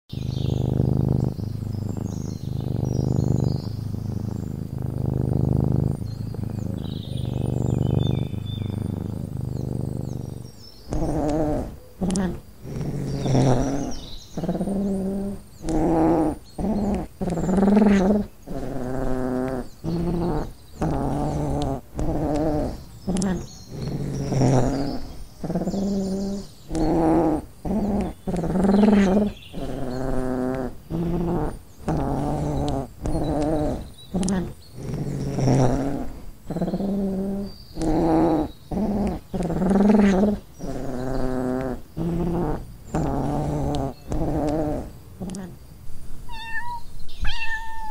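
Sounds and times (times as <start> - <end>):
cat growling: 0.1 - 45.6, 46.3 - 47.9.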